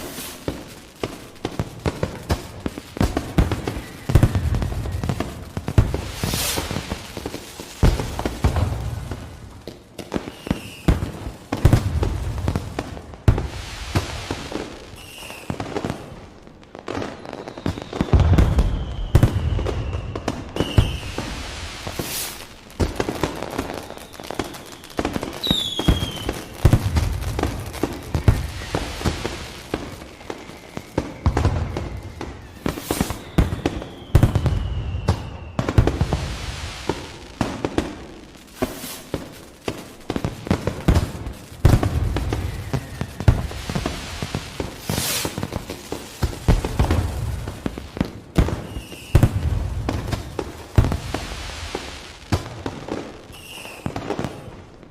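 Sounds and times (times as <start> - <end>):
fireworks booming and crackling: 0.0 - 54.9
firework whistle: 3.0 - 9.4, 10.0 - 12.2, 13.4 - 16.1, 16.9 - 22.5, 23.2 - 37.2, 38.6 - 39.2, 40.6 - 52.1, 53.3 - 54.6.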